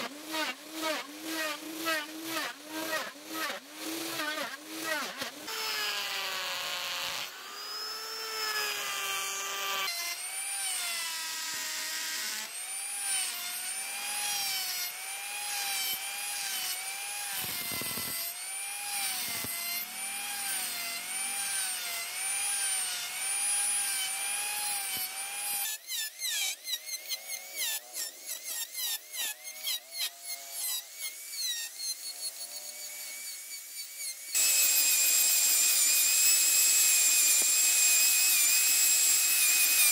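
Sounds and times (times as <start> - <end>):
die grinder carving wood: 0.0 - 39.9.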